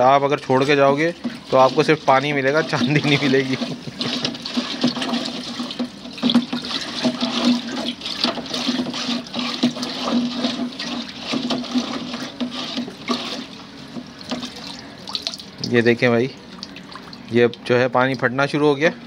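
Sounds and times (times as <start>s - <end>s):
liquid sloshing in plastic drum: 0.0s - 18.5s.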